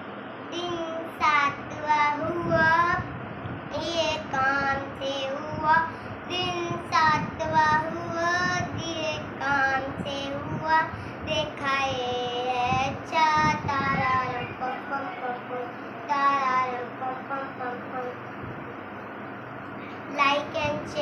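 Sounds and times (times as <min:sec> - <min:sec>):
girl singing: 0:00.5 - 0:18.3, 0:20.1 - 0:21.0.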